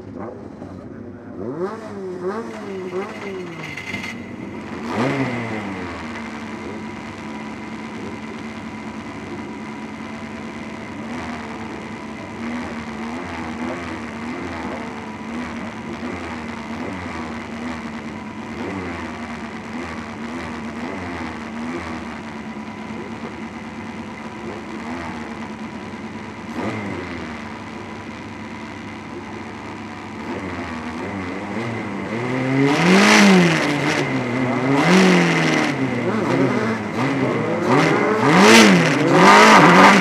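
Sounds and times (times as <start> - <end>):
race car engine idling: 0.0 - 40.0.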